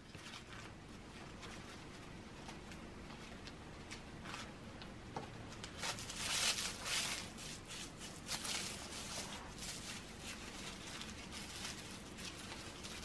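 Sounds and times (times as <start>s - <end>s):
crumpled paper rustling: 0.0s - 4.5s, 5.6s - 13.0s.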